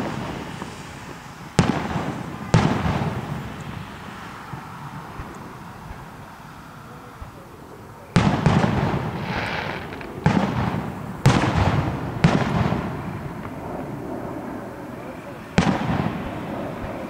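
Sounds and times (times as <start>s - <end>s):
firework booms with rolling echo: 0.0s - 17.0s.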